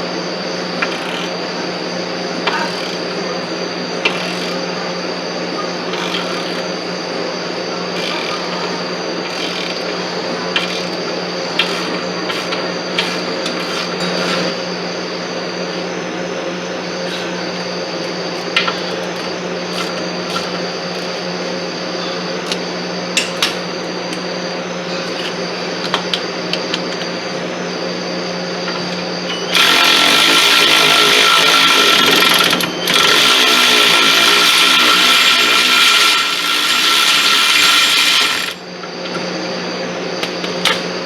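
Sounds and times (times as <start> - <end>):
power tool running: 0.0 - 24.4, 27.8 - 38.7
steady hum: 0.0 - 41.0.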